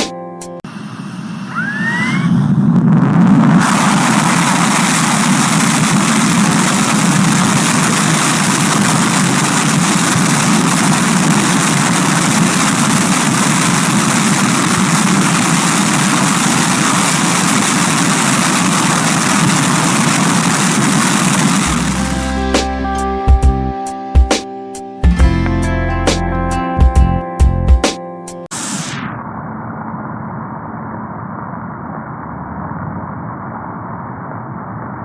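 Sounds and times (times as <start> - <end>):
loud jet engine noise: 0.6 - 22.4, 28.5 - 35.0.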